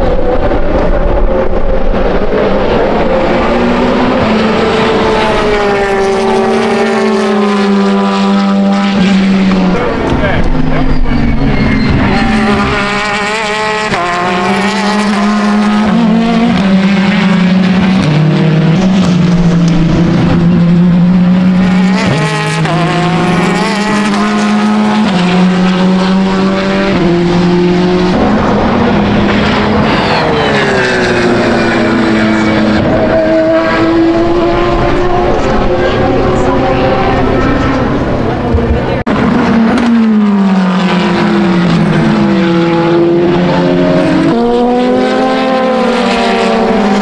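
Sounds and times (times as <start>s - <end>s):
race cars passing: 0.0s - 47.0s.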